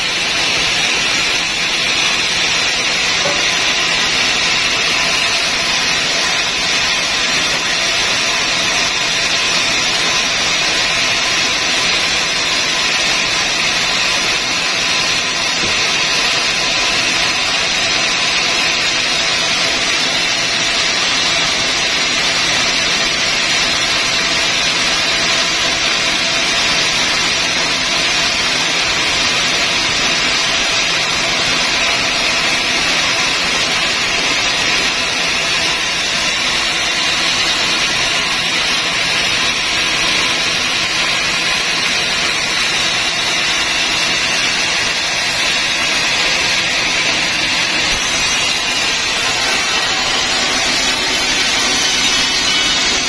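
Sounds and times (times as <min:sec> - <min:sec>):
band saw whirring: 0:00.0 - 0:53.0.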